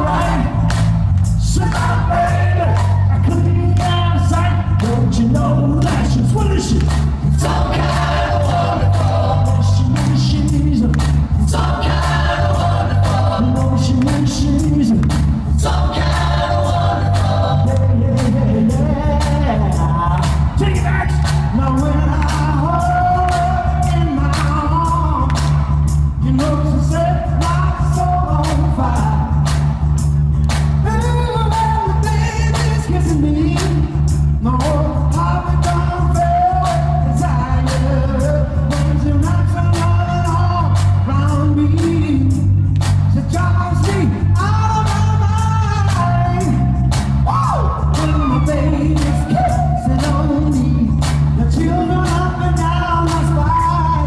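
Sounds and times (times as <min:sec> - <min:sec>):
man singing lead vocals: 0:00.0 - 0:29.6, 0:30.8 - 0:54.0.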